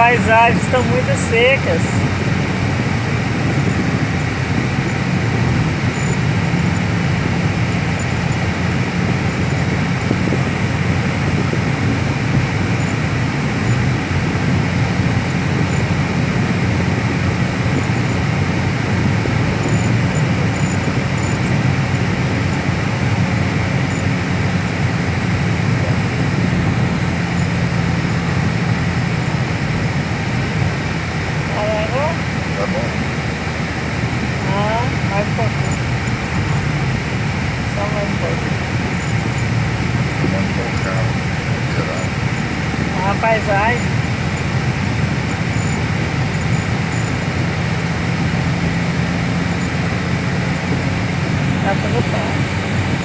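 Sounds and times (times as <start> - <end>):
car road and engine noise: 0.0 - 53.0.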